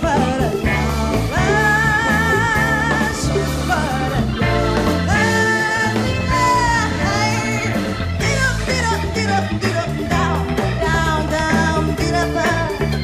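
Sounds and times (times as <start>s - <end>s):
bass: 0.0s - 13.0s
drums: 0.0s - 13.0s.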